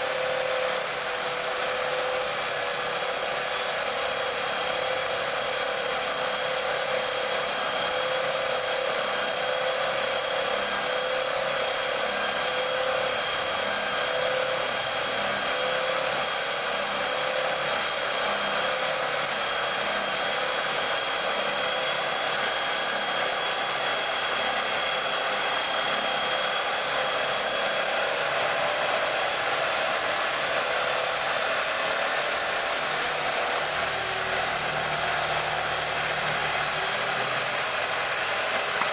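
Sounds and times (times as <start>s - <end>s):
drill motor whine: 0.0s - 38.9s.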